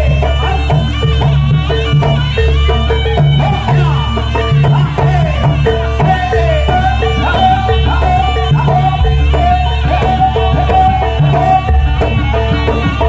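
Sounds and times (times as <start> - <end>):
drums: 0.0 - 13.0
heavy bass: 0.0 - 13.0
repeated struck note: 0.0 - 13.0.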